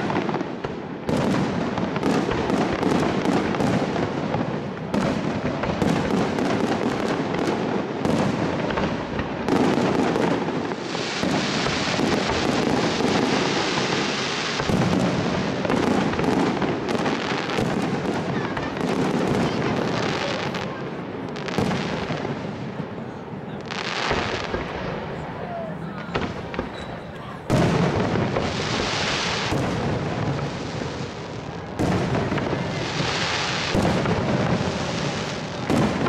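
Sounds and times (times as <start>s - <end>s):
fireworks hissing: 0.0s - 22.8s, 26.0s - 36.0s
fireworks bursting: 0.0s - 36.0s.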